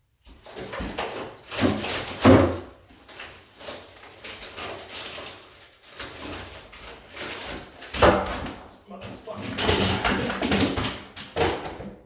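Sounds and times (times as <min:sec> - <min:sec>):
wooden cabinet scraping and creaking: 0:00.3 - 0:12.0.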